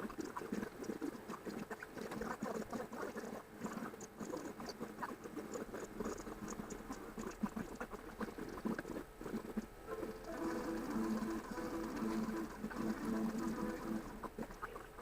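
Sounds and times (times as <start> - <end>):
rapid patter of clicks and squeaks: 0.0 - 15.0.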